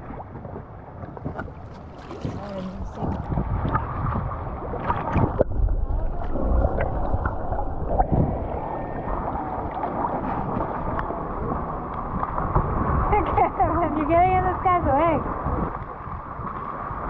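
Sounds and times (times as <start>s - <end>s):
water sloshing around boat: 0.0s - 17.0s
wind on microphone: 0.0s - 17.0s.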